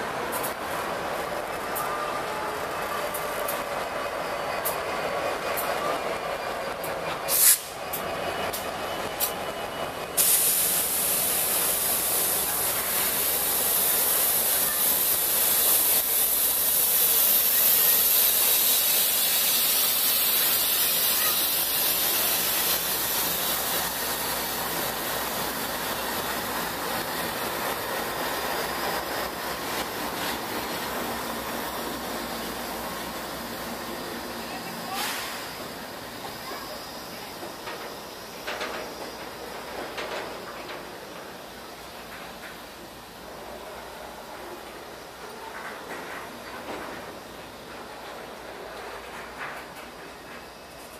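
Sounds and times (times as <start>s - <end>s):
freight train rolling past: 0.0s - 50.9s.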